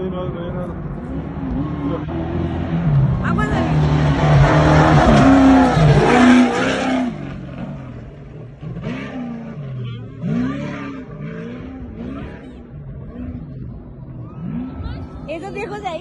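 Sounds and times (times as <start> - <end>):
race truck engine revving: 0.0 - 16.0.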